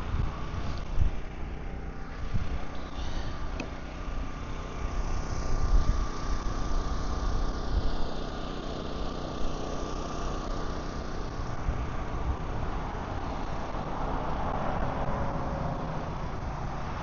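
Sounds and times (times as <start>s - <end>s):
engine idling: 0.0s - 17.0s
faint steady whine: 0.0s - 17.0s.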